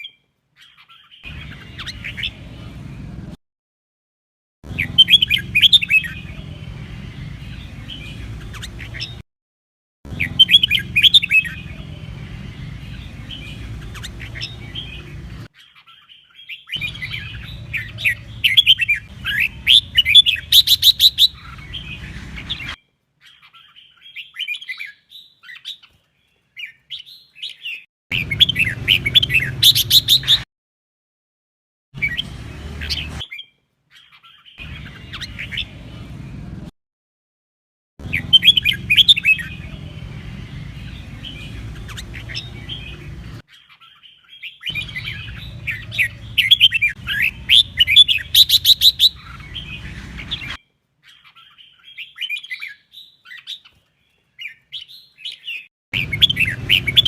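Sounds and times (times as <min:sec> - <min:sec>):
bird singing chirping phrases: 0:00.0 - 0:03.3, 0:04.7 - 0:09.2, 0:10.1 - 0:30.5, 0:32.0 - 0:36.7, 0:38.0 - 0:57.0.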